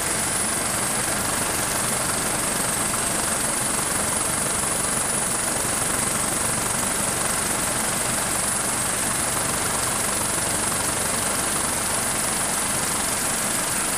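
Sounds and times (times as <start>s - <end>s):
helicopter rotor and engine noise: 0.0s - 13.9s
high turbine whine: 0.0s - 13.9s.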